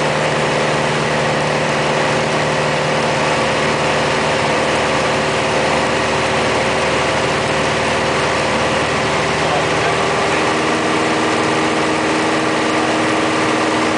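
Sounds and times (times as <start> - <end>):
propeller plane engine droning: 0.0 - 13.9.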